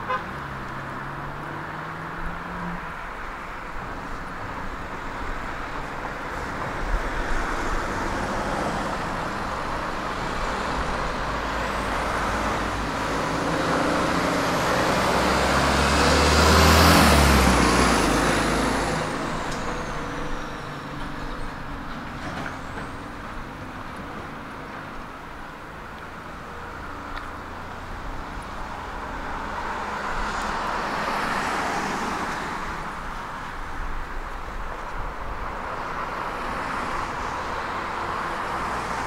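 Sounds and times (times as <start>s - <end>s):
vehicle engine rumble: 0.0s - 39.0s.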